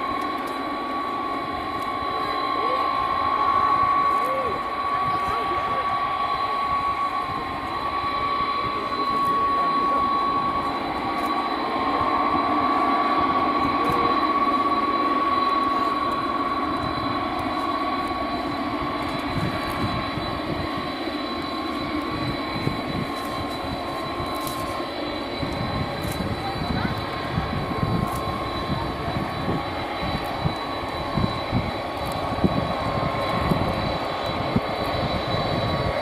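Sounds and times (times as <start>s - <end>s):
jet engines rumbling and whining: 0.0s - 36.0s.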